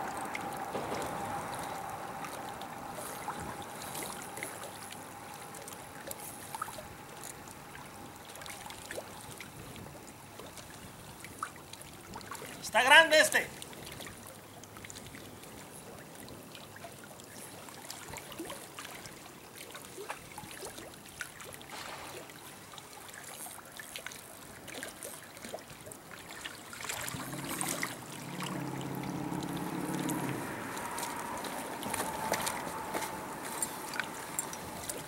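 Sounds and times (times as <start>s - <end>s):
river water trickling: 0.0s - 35.0s.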